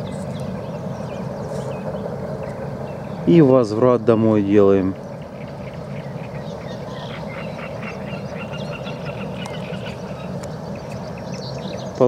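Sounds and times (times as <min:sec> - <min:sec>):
chorus of small animal calls: 0:00.0 - 0:12.0.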